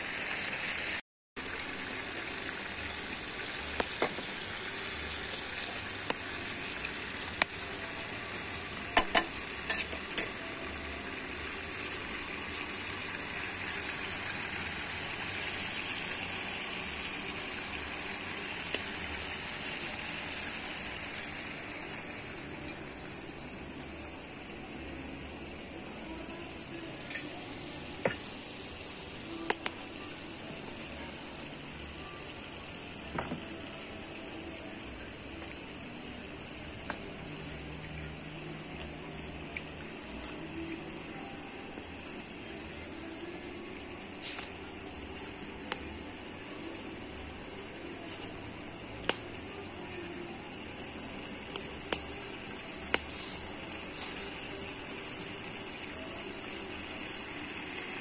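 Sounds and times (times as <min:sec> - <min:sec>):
food sizzling in a pot: 0:00.0 - 0:58.0.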